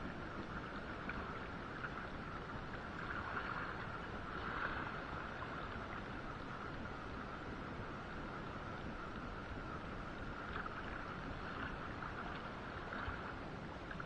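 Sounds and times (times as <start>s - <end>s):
sea water: 0.0s - 14.0s
wind: 0.0s - 14.0s.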